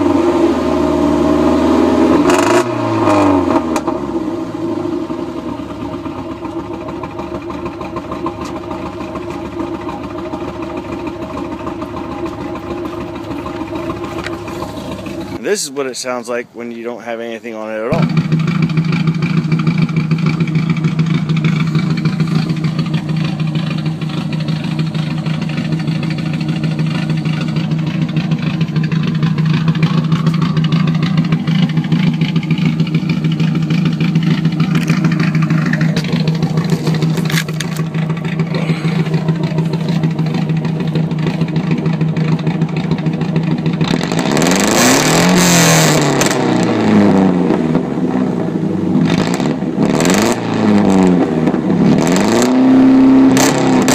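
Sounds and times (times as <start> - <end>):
car engine idling and revving: 0.0 - 16.6, 17.4 - 53.9.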